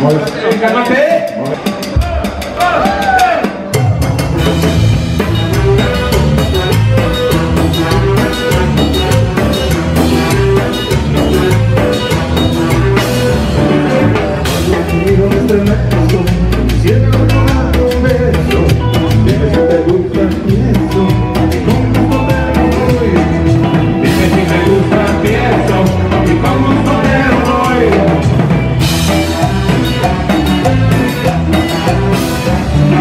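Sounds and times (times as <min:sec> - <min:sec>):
drum kit beat: 0:00.0 - 0:33.0.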